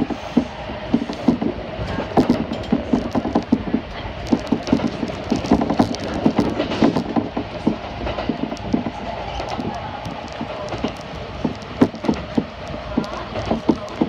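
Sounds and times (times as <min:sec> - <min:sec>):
electric train running hum: 0:00.0 - 0:14.0
train clicks and knocks: 0:00.0 - 0:14.0.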